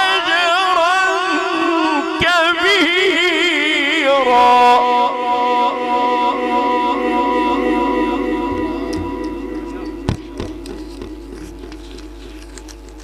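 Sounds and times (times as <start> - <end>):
man chanting melodically: 0.0 - 12.4.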